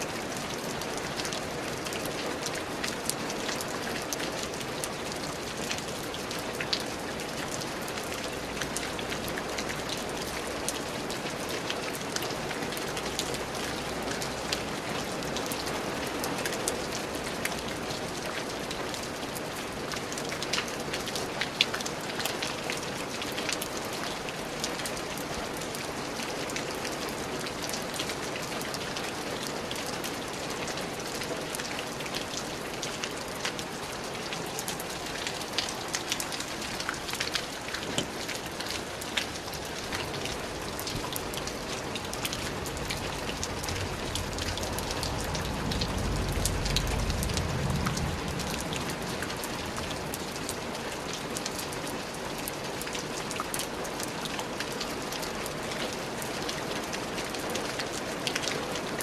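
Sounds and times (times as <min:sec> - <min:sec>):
rain pattering on a surface: 0:00.0 - 0:59.0.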